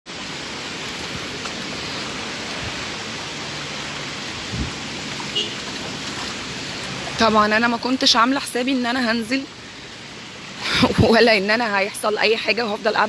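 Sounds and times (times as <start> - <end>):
rain on flooded street: 0.1 - 13.0.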